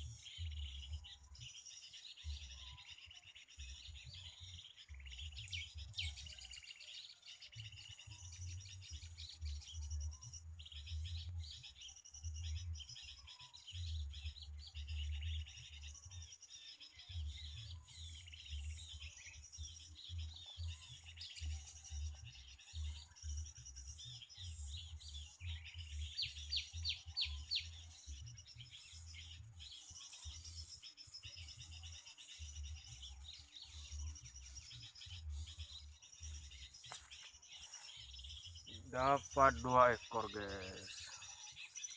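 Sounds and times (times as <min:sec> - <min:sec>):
songbirds chirping: 0:00.0 - 0:41.9.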